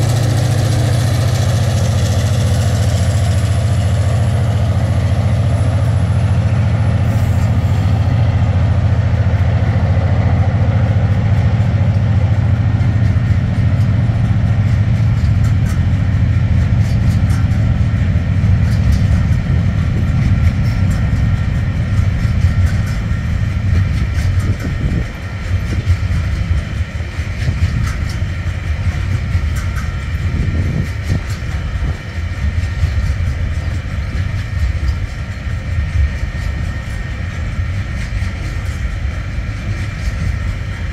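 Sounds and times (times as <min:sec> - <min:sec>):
diesel locomotive drone: 0:00.0 - 0:40.9
train wagons rumbling: 0:00.0 - 0:40.9
wheels clicking over rail joints: 0:00.0 - 0:40.9.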